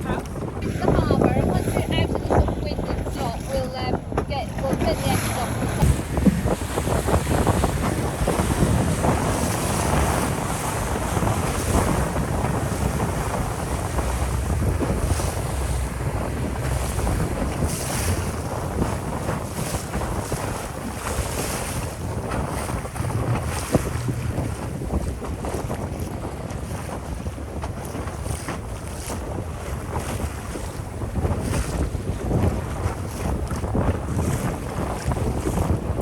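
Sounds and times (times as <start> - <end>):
water rushing along hull: 0.0 - 36.0
wind buffeting microphone: 0.0 - 36.0.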